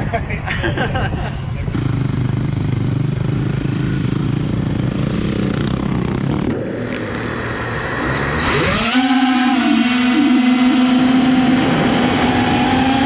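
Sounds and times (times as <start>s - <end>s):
utility vehicle engine running: 1.6s - 13.0s.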